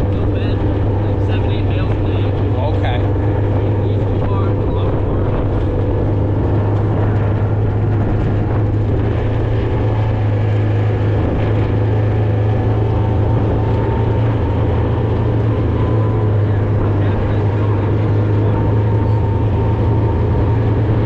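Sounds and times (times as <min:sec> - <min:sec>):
engine drone with low hum: 0:00.0 - 0:21.0.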